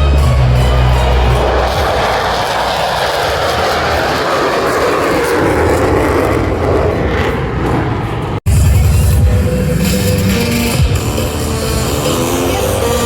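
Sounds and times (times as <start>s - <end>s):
airplane engine passing overhead: 0.0s - 13.0s.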